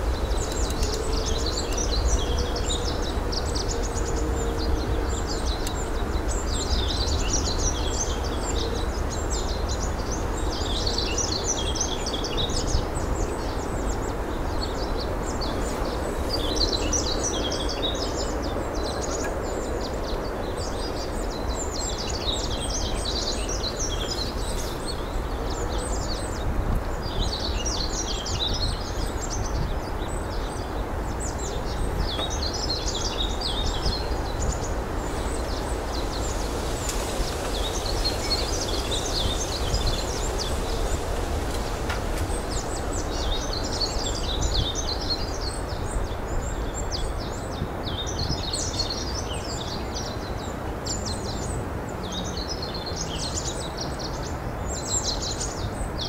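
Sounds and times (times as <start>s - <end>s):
small birds chirping: 0.0s - 56.0s
wind rumble: 0.0s - 56.0s.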